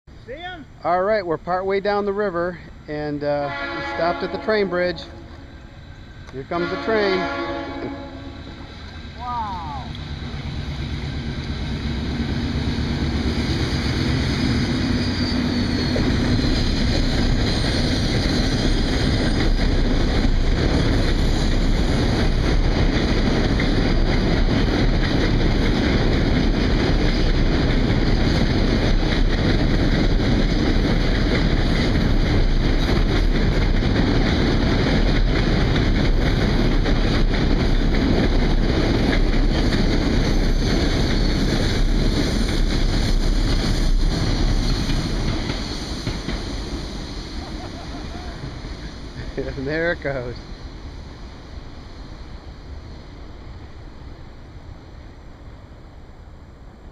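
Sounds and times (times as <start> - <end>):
train rumbling over bridge: 0.1 - 56.9.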